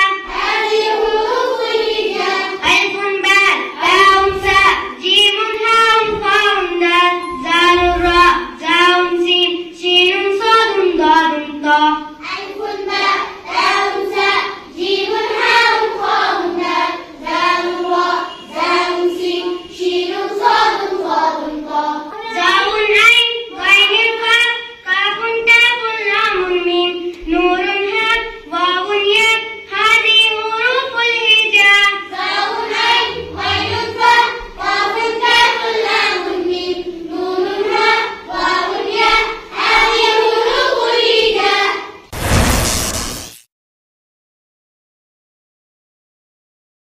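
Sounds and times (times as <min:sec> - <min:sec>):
children chanting in sing-song: 0:00.0 - 0:42.1.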